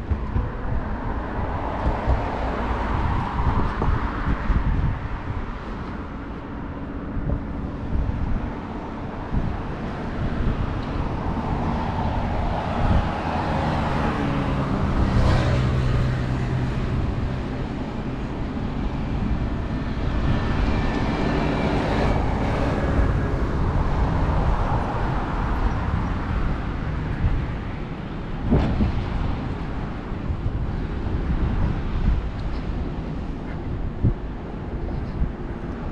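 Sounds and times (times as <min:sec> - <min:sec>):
road traffic passing: 0:00.0 - 0:35.9
wind buffeting microphone: 0:00.0 - 0:35.9.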